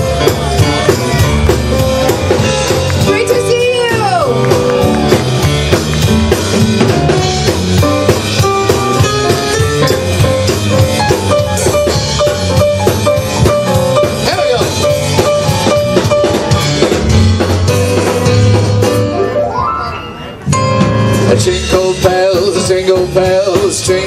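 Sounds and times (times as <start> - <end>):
drum kit fast beat: 0.0 - 19.3, 20.6 - 24.0
live band music: 0.0 - 24.0.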